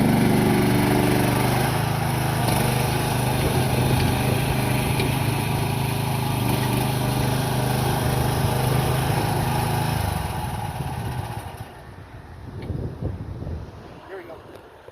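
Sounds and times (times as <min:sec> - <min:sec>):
small excavator engine running: 0:00.0 - 0:12.0.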